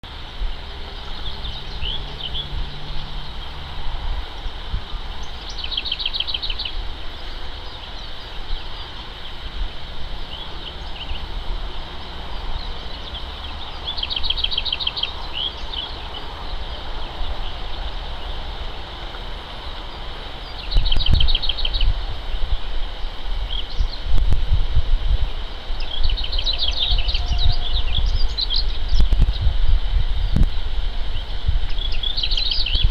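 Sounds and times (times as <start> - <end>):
songbird trilling: 0.4 - 24.1, 25.5 - 32.9.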